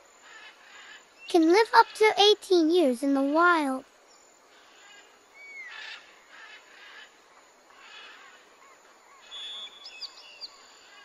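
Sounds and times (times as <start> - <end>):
birds chirping: 0.3 - 11.0.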